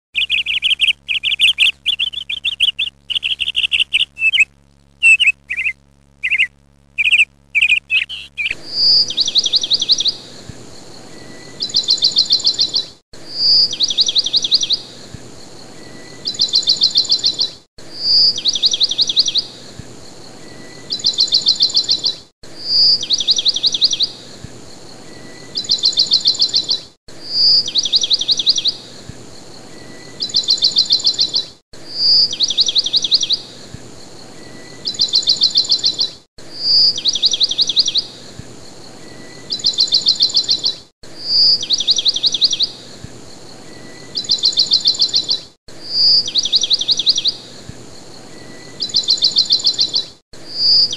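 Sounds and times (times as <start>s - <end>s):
songbird trilling: 0.2s - 10.2s, 11.1s - 14.8s, 15.8s - 19.5s, 20.4s - 24.1s, 25.1s - 28.8s, 29.7s - 33.4s, 34.4s - 38.2s, 39.1s - 42.8s, 43.7s - 47.4s, 48.3s - 50.9s.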